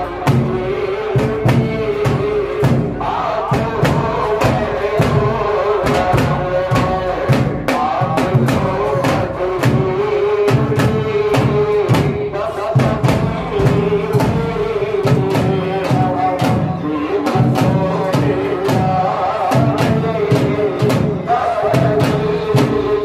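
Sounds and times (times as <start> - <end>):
chanted devotional singing: 0.0 - 23.0
frame drums beating: 0.0 - 23.0.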